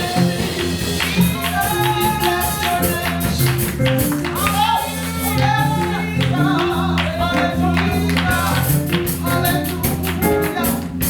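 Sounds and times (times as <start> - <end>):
people singing: 0.0 - 3.8, 4.5 - 10.8
sustained keyboard notes: 0.0 - 11.0
worship band playing: 0.0 - 11.0.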